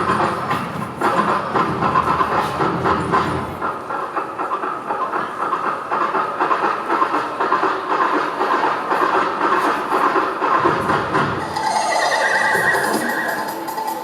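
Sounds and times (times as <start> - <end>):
train clattering on rails: 0.0 - 14.0.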